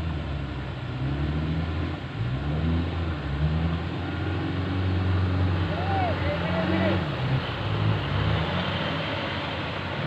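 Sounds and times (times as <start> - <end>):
off-road vehicle engine revving: 0.0 - 10.0.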